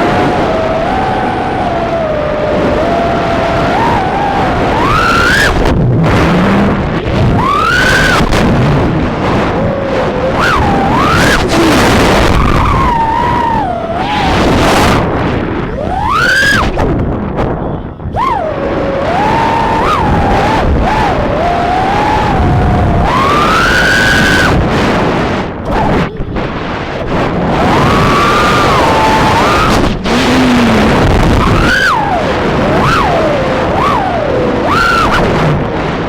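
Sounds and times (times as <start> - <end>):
drone motors whining: 0.0 - 35.6
propeller and wind rush: 0.0 - 36.0.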